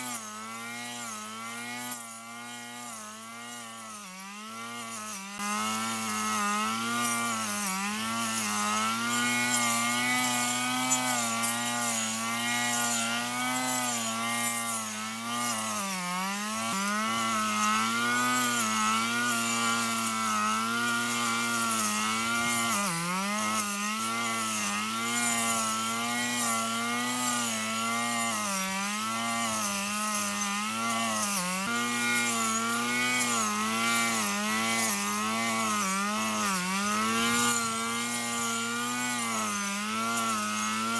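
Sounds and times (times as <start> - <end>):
lawn mower running: 0.0 - 40.9.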